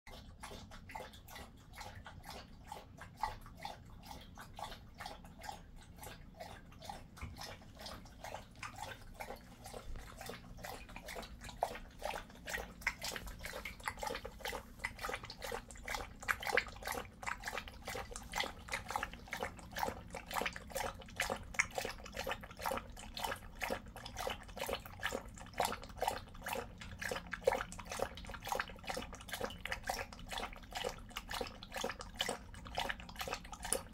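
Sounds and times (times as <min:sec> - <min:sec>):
dog lapping water from metal bowl: 0:00.1 - 0:33.9.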